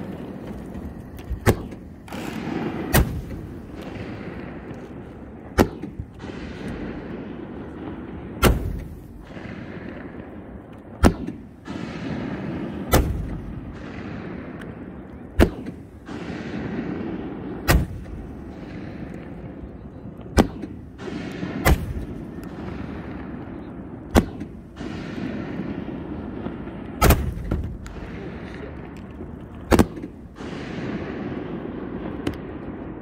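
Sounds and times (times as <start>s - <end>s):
fireworks bangs: 0.0s - 33.0s.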